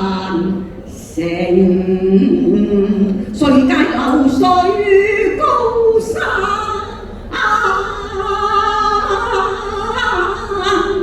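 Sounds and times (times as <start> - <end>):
woman singing opera: 0.0 - 11.0.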